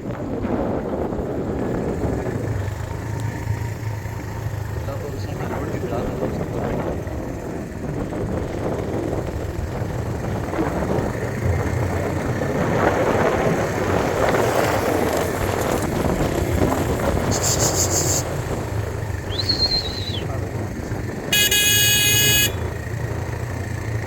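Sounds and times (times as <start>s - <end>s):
wind noise: 0.0s - 4.3s, 4.9s - 24.0s
vehicle driving rumble: 0.0s - 24.0s.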